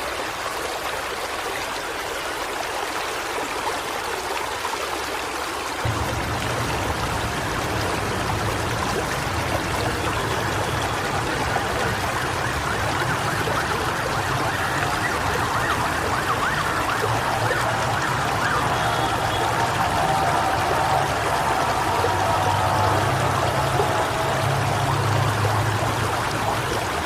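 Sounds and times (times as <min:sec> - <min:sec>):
heavy rain: 0:00.0 - 0:27.0
wind: 0:00.0 - 0:27.0.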